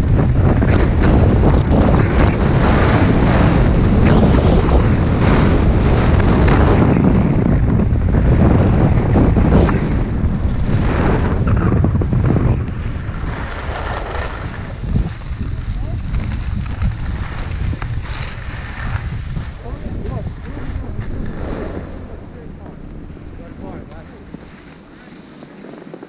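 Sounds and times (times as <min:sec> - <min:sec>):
wind buffeting microphone: 0:00.0 - 0:26.0
skis scraping on snow: 0:00.1 - 0:07.5, 0:08.2 - 0:26.0.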